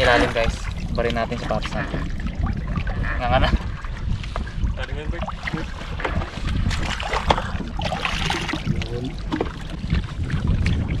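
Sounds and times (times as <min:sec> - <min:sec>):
sea water sloshing and splashing: 0:00.0 - 0:11.0
wind rumbling on microphone: 0:00.0 - 0:11.0.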